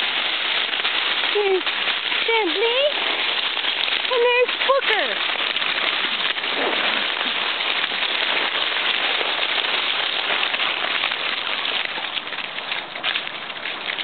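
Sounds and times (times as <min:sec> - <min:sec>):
dry leaves crunching underfoot: 0:00.0 - 0:14.0.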